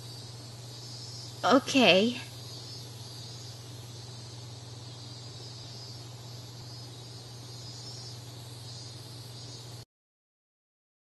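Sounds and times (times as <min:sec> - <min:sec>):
high-pitched insect chorus: 0:00.0 - 0:09.8
low steady hum: 0:00.0 - 0:09.8.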